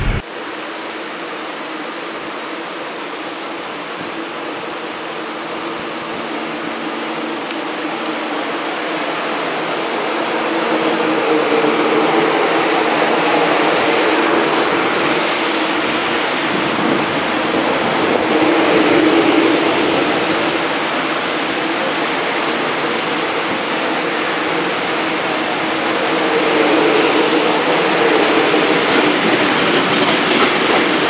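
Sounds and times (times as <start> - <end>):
electric train passing: 0.0 - 31.0.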